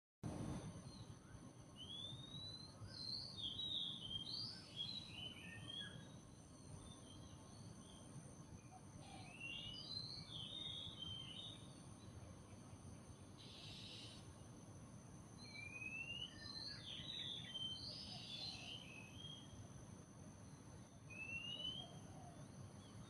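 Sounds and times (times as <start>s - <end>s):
faint background hiss: 0.3s - 23.0s
songbirds chirping and warbling: 0.4s - 14.7s, 15.3s - 23.0s.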